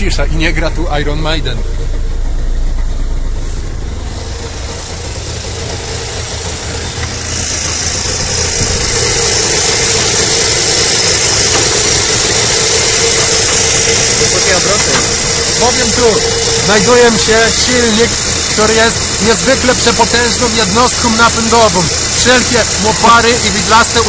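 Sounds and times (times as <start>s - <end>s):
two-stroke engine idling: 0.0s - 24.0s
loud steady hiss: 4.0s - 24.0s.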